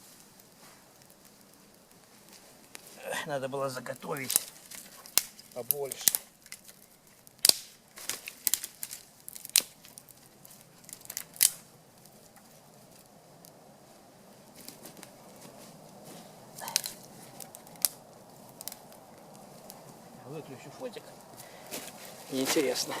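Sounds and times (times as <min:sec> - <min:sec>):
faint rustling: 0:00.0 - 0:23.0
dry twigs snapping: 0:00.1 - 0:03.1, 0:03.7 - 0:23.0.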